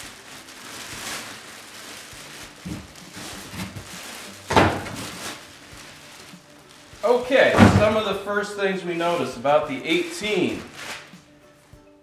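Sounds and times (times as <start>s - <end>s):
plastic bag crinkling: 0.0s - 8.3s, 8.9s - 11.2s.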